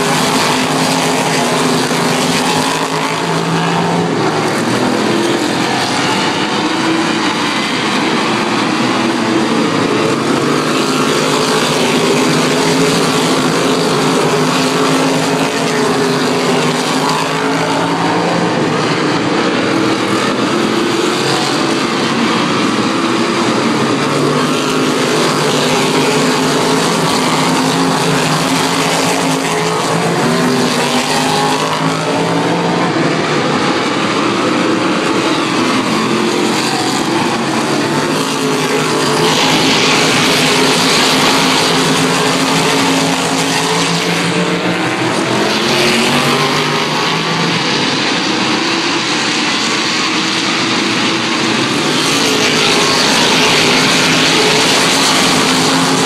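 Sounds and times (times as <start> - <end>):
race cars passing on track: 0.0 - 56.0.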